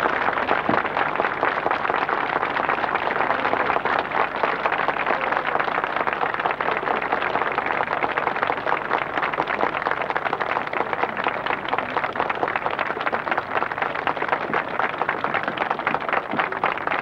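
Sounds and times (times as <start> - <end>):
crowd clapping: 0.0 - 17.0
crowd voices: 0.0 - 17.0.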